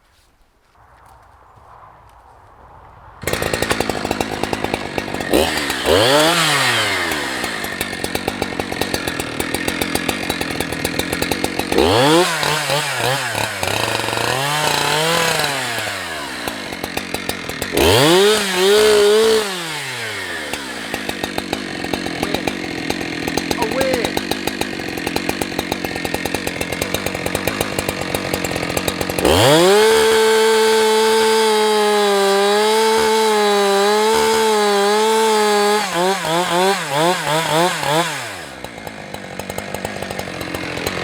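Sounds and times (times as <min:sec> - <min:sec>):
chainsaw starting and revving: 0:03.2 - 0:41.0.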